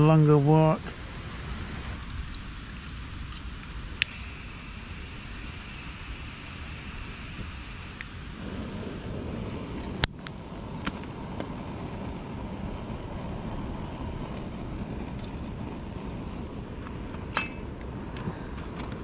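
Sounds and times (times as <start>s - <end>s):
camping stove rushing: 2.0s - 19.0s.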